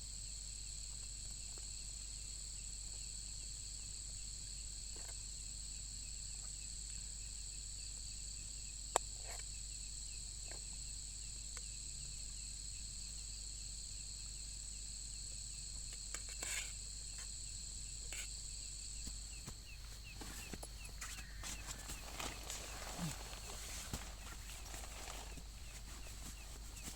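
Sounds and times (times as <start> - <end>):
insect chorus ringing: 0.1 - 26.9.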